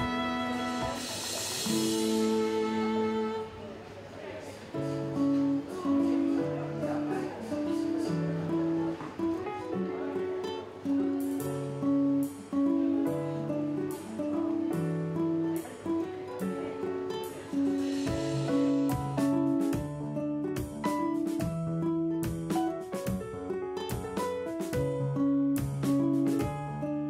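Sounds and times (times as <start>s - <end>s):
acoustic guitar music: 0.0s - 4.0s, 4.6s - 27.0s.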